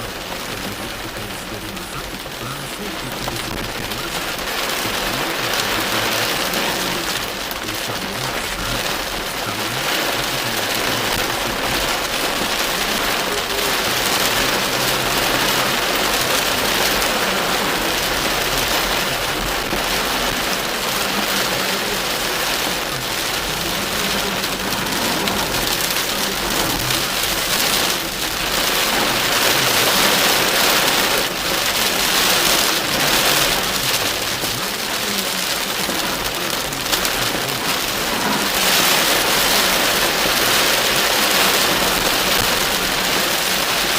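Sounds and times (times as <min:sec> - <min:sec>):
heavy rain on car roof: 0:00.0 - 0:43.9.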